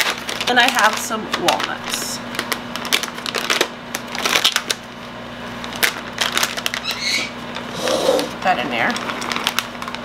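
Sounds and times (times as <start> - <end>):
plastic bag crinkling: 0.0 - 5.0, 5.6 - 7.7, 8.3 - 10.0.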